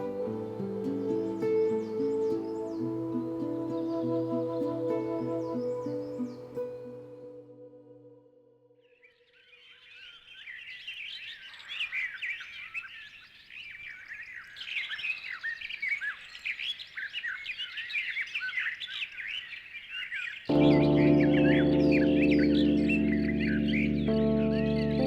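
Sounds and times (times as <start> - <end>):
small birds chirping: 0.0 - 6.9, 9.1 - 25.0.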